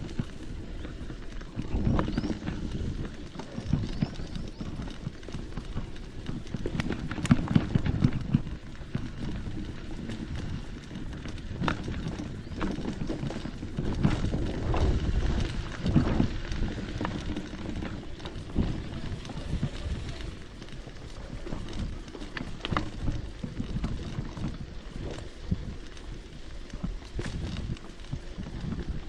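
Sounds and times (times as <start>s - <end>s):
footsteps on a trail: 0.0s - 29.0s.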